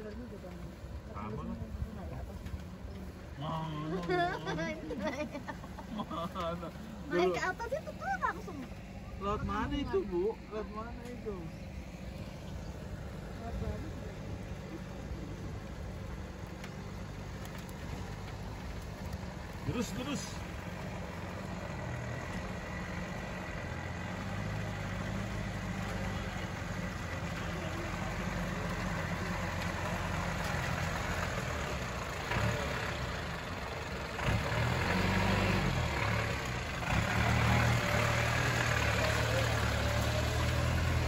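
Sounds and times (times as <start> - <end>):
off-road vehicle engine running: 0.0 - 41.0.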